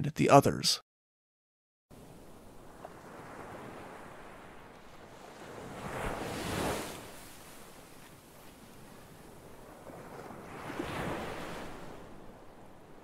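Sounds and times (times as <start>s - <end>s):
ocean waves washing: 1.9s - 13.0s.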